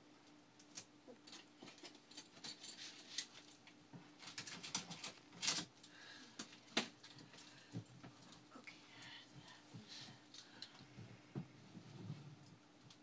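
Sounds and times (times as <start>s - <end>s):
faint steady hum: 0.0s - 13.0s
small clicks and rustles: 0.2s - 11.0s.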